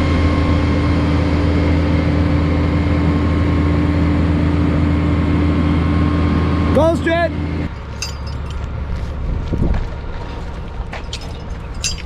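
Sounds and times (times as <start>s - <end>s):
truck engine humming steadily: 0.0s - 12.0s.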